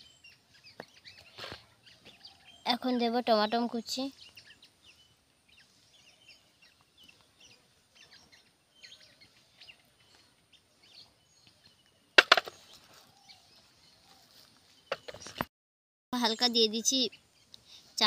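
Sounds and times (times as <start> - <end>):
small birds chirping: 0.0 - 15.5, 16.2 - 18.0.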